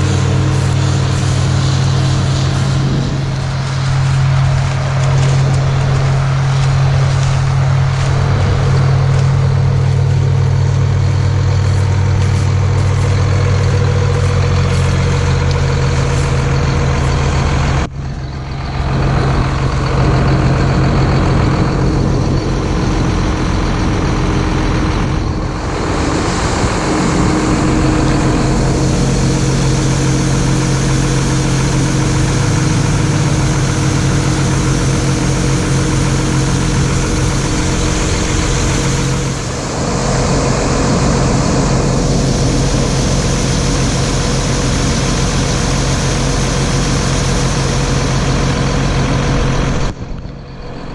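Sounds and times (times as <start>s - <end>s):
diesel engines humming: 0.0s - 50.9s.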